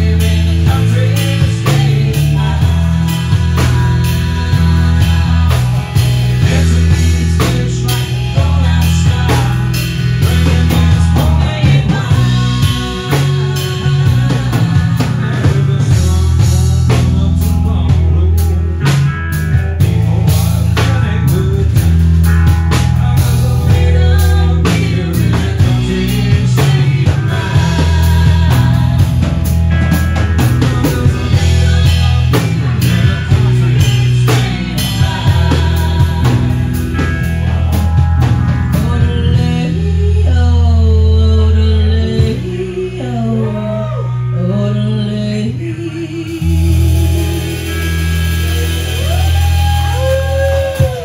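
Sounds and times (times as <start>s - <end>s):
country band playing live: 0.0s - 51.0s.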